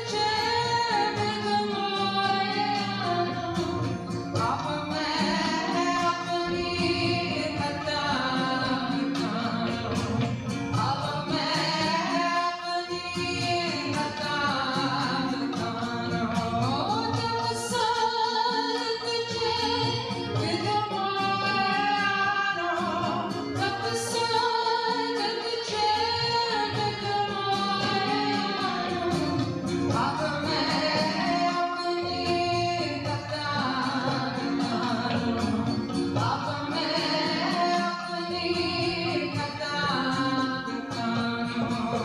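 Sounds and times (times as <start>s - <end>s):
instrumental accompaniment: 0.0s - 42.0s
steady percussive beat: 0.0s - 42.0s.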